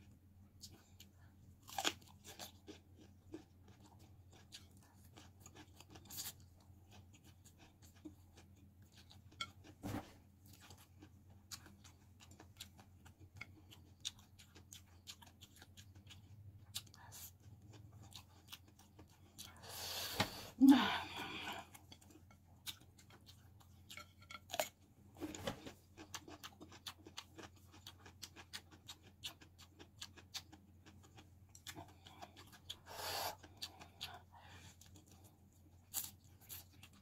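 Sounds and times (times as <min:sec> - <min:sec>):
chewing noodles: 0:00.5 - 0:09.8, 0:10.4 - 0:19.9, 0:20.7 - 0:37.0.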